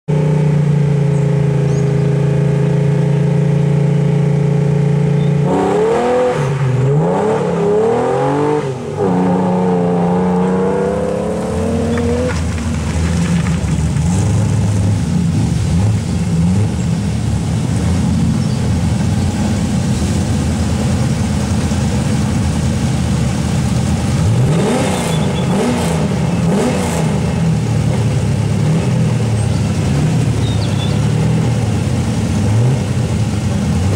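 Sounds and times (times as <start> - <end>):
car engine idling: 0.1 - 5.5, 8.7 - 33.9
car engine accelerating: 0.1 - 33.9.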